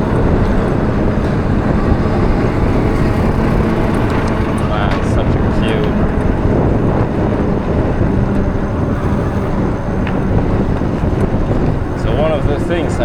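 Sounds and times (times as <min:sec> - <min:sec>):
faint hum: 0:00.0 - 0:13.0
road noise: 0:00.0 - 0:13.0
wind buffeting microphone: 0:00.0 - 0:13.0.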